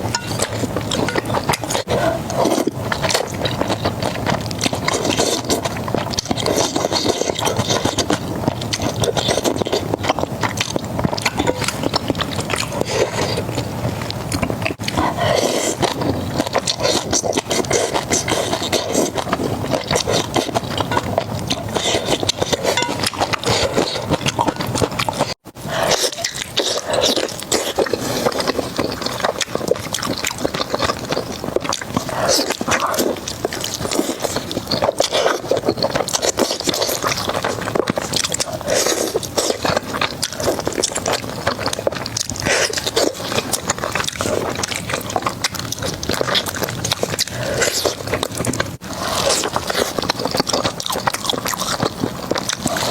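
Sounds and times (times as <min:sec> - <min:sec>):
crunching and chewing food: 0:00.0 - 0:52.9.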